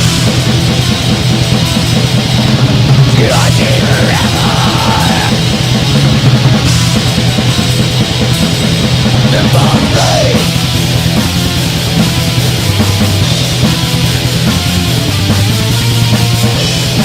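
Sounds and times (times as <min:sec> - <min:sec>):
distorted guitars: 0:00.0 - 0:17.0
fast drum beat: 0:00.0 - 0:17.0.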